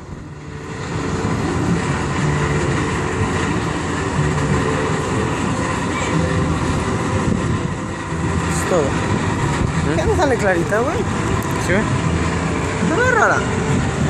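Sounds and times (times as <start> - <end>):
loud vehicle rumble: 0.0 - 14.0
low hum: 0.0 - 14.0.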